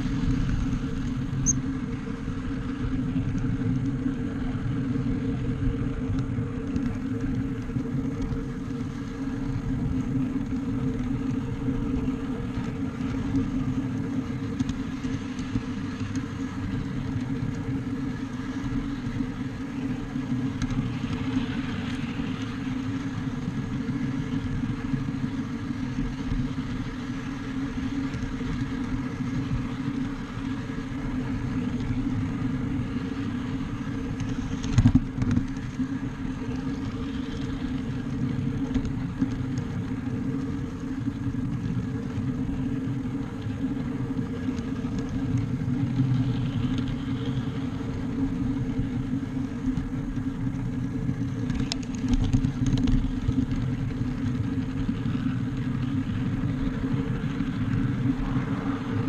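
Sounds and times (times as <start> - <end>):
model train motor and wheels hum: 0.0 - 59.0.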